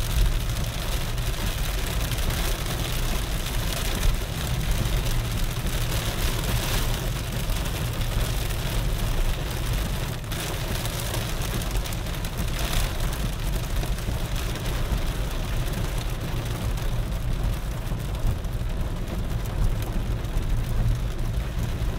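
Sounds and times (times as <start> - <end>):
engine and road noise: 0.0 - 21.9
heavy rain drumming on car roof: 0.0 - 21.9.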